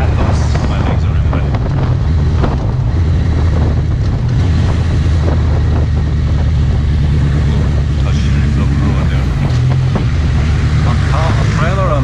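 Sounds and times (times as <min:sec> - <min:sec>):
motorcycle engine drone: 0:00.0 - 0:12.0
wind rushing over microphone: 0:00.0 - 0:12.0.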